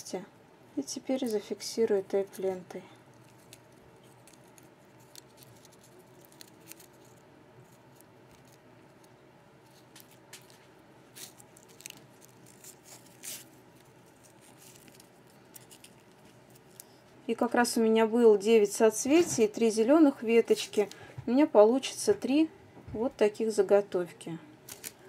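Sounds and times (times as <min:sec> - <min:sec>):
soft tape rustling: 0:00.7 - 0:17.7, 0:18.9 - 0:22.4, 0:24.6 - 0:25.0.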